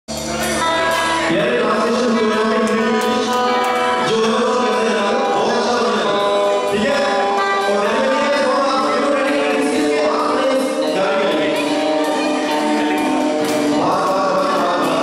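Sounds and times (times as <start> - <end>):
drum kit beat: 0.1 - 15.0
live rock band playing: 0.1 - 15.0
person singing: 0.1 - 15.0.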